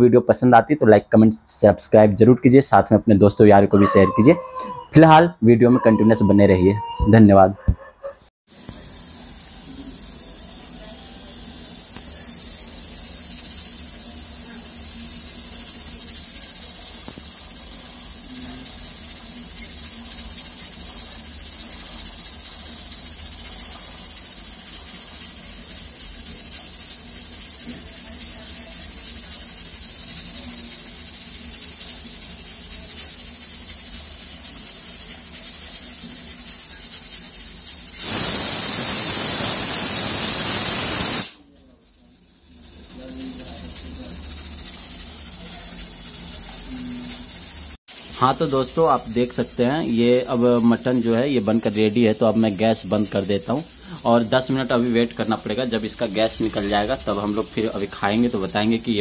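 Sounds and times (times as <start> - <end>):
pressure cooker hissing: 8.4 - 59.0.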